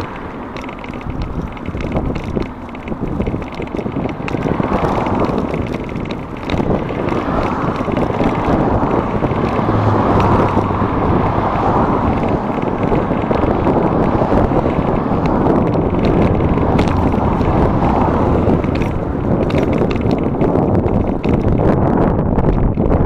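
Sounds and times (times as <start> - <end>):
low engine hum: 0.0 - 23.0
road traffic passing: 0.0 - 23.0
wind rushing over microphone: 0.0 - 23.0.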